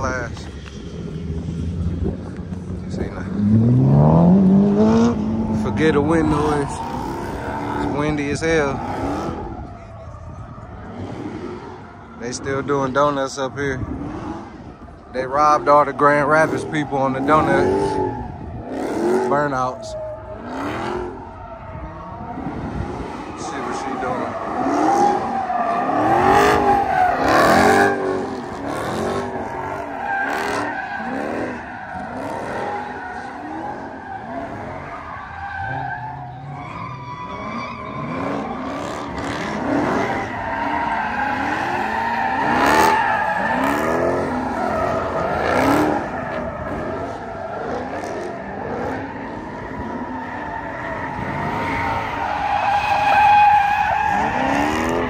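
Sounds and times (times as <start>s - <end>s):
car engine revving: 0.0s - 55.0s
tires squealing on pavement: 0.0s - 55.0s.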